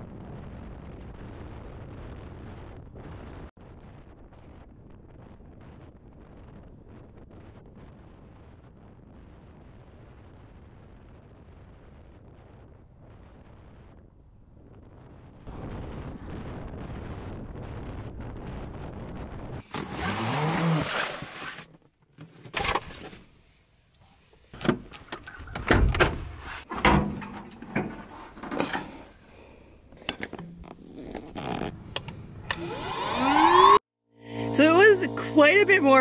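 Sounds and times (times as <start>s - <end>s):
road and wind noise: 0.0s - 36.0s.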